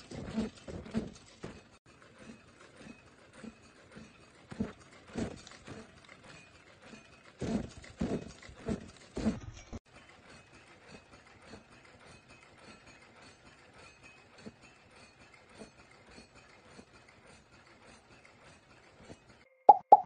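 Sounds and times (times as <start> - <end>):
steady mechanical clatter: 0.0 - 19.5.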